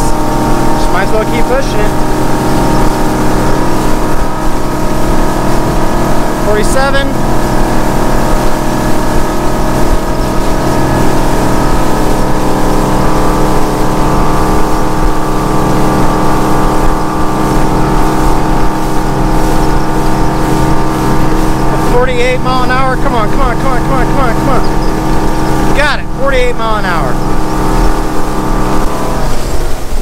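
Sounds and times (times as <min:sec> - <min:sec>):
boat engine droning: 0:00.0 - 0:30.0
rush of wind and water: 0:00.0 - 0:30.0.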